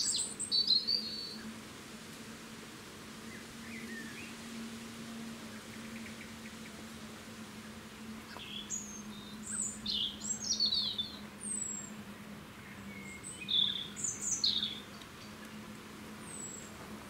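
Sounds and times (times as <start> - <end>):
birds chirping: 0.0 - 1.6, 3.2 - 17.0
steady low hum: 0.0 - 17.0.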